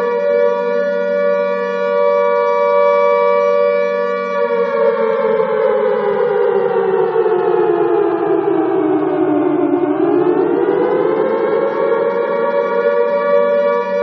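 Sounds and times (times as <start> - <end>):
alarm siren wailing: 0.0 - 14.0.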